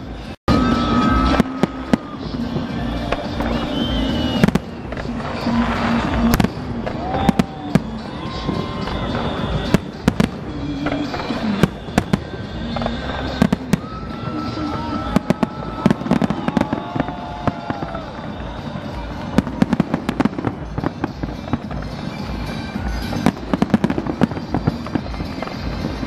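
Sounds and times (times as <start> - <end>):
fireworks bangs and cracks: 0.0 - 26.0
steady background din: 0.0 - 26.0.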